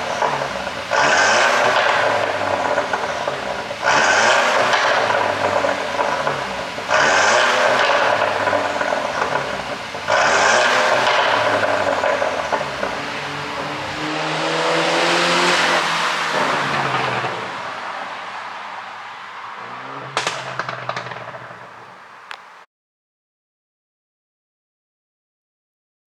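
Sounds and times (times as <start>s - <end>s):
car engine revving with pops: 0.0s - 22.7s.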